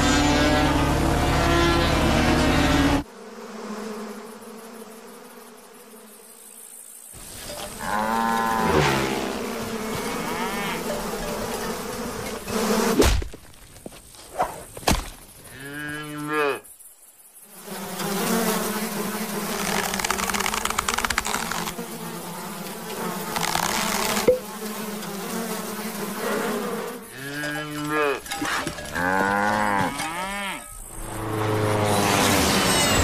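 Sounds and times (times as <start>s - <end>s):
cartoon insect wings buzzing: 0.0s - 13.0s, 17.5s - 33.0s.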